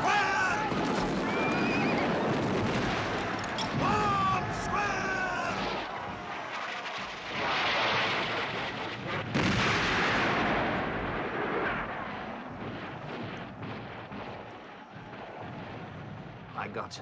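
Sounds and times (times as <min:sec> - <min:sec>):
cannon and musket fire: 0:00.0 - 0:16.6.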